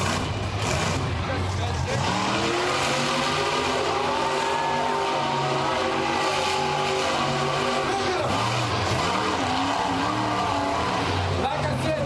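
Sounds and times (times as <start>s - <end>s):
loud truck engine revving: 0.0s - 12.0s.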